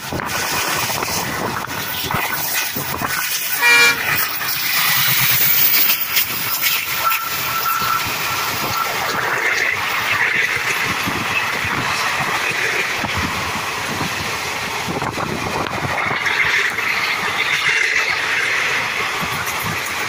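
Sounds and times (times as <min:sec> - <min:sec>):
train wheels clacking: 0:00.0 - 0:20.0
train wheels rushing on rails: 0:00.0 - 0:20.0.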